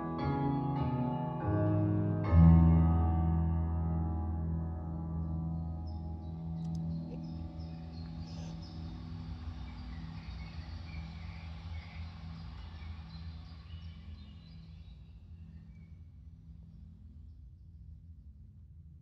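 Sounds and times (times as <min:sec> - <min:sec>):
electronic ambient music: 0:00.0 - 0:17.6.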